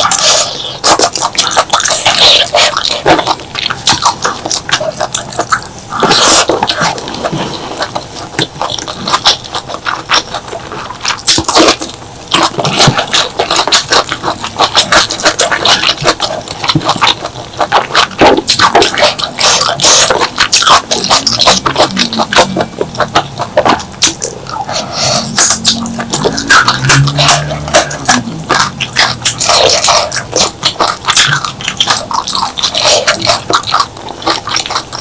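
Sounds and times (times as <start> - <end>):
mouth clicks and squelches: 0.0 - 35.0
wet chewing: 0.0 - 35.0.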